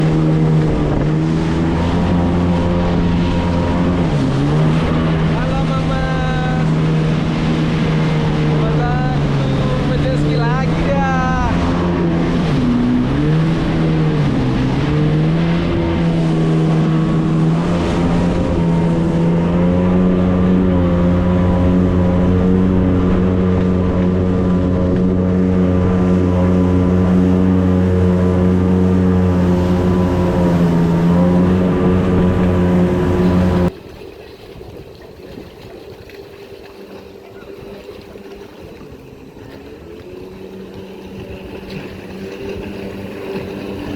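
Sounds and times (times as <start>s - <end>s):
jet ski engine running: 0.0s - 43.9s.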